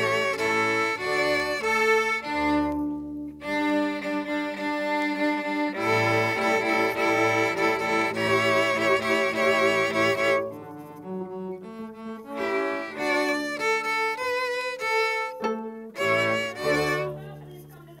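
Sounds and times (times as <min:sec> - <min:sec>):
string ensemble fiddle tune: 0:00.0 - 0:18.0.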